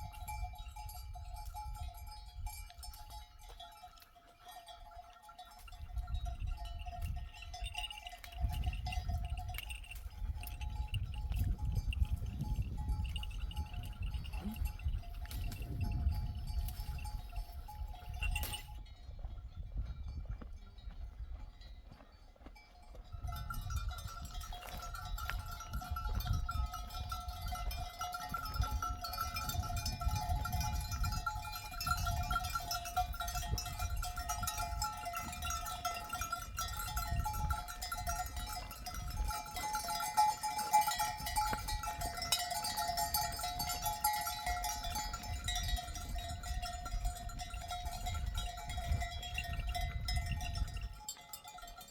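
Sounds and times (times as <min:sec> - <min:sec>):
sheep bells clanking: 0:00.0 - 0:51.9.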